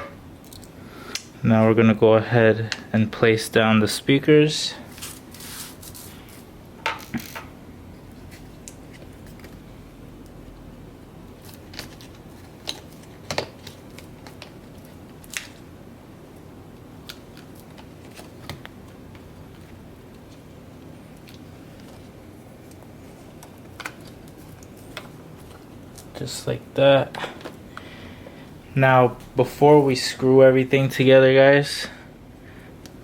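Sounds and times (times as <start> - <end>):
steady background hiss: 0.0 - 33.0.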